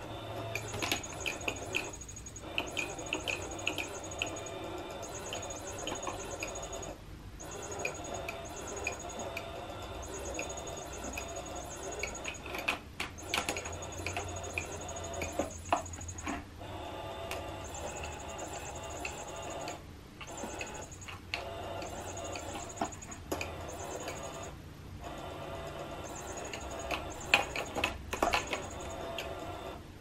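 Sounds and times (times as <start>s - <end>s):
toy motor whirring: 0.0s - 29.8s.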